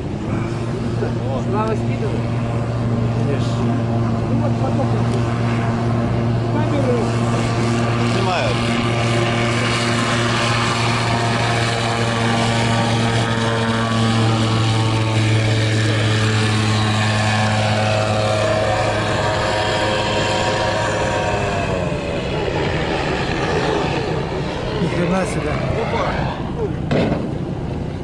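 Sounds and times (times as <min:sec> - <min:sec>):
propeller engine drone: 0:00.0 - 0:28.0.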